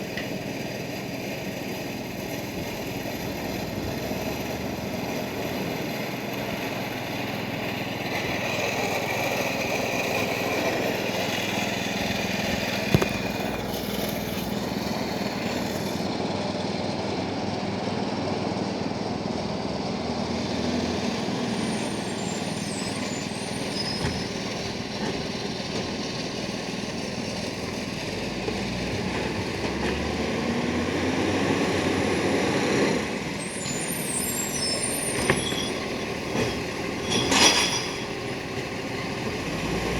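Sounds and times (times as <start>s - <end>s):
garbage truck running: 0.0s - 39.9s.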